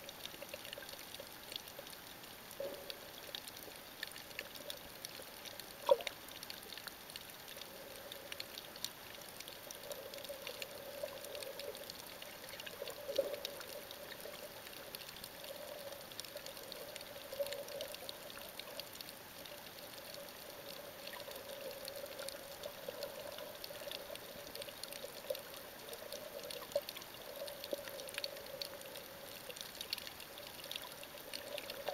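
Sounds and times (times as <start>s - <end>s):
fine crackling clicks: 0.0s - 31.9s
muffled underwater noise: 0.2s - 29.5s.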